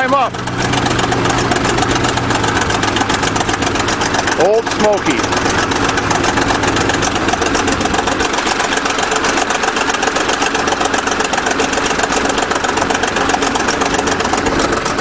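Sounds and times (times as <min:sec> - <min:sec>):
bulldozer diesel engine idling: 0:00.0 - 0:15.0.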